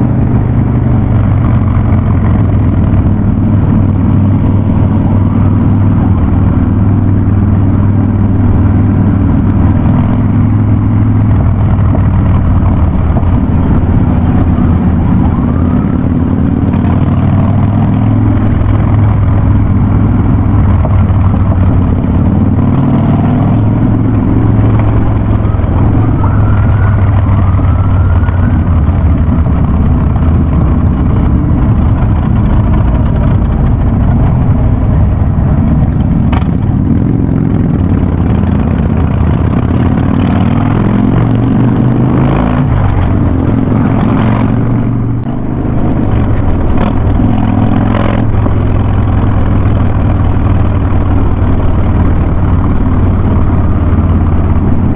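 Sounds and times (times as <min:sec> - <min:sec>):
motorcycle engine deep drone: 0:00.0 - 0:54.9.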